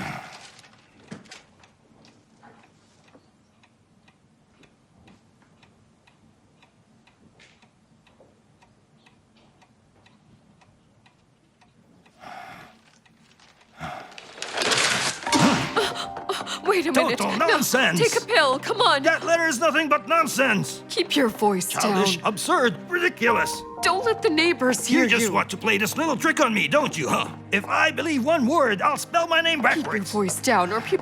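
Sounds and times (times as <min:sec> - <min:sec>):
clock ticking: 0:01.6 - 0:12.3, 0:15.3 - 0:31.0.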